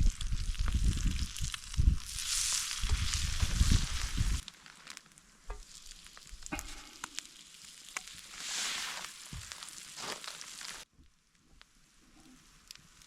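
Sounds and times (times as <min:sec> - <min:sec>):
food sizzling in a pan: 0:00.0 - 0:10.9
sharp pops and crackles: 0:00.0 - 0:13.0.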